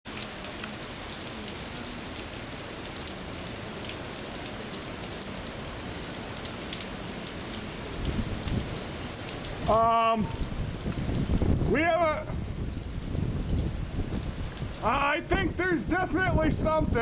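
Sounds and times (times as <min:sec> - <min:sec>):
heavy rain: 0:00.1 - 0:17.0.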